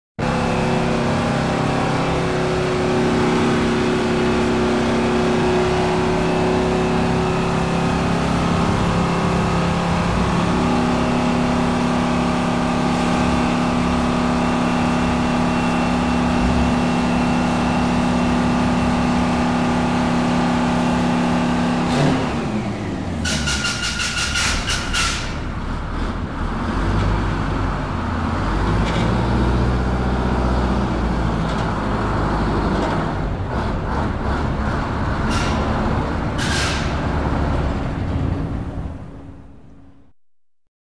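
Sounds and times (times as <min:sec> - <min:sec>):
bus engine idling: 0:00.2 - 0:28.6, 0:30.7 - 0:40.1.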